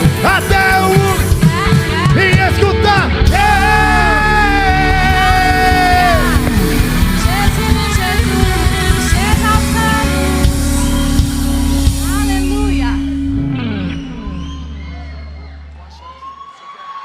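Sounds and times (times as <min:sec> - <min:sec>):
worship band music: 0:00.0 - 0:16.0.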